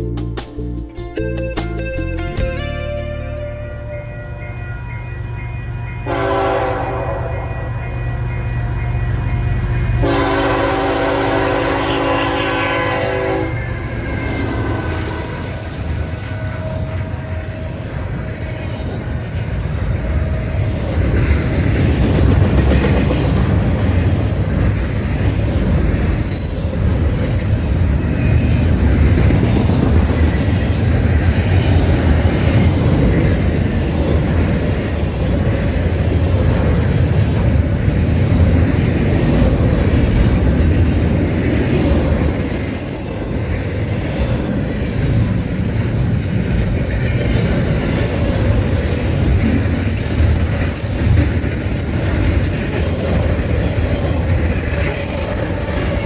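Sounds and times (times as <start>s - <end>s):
high wheel squeal: 3.6s - 56.0s
train rumbling on rails: 3.6s - 56.0s.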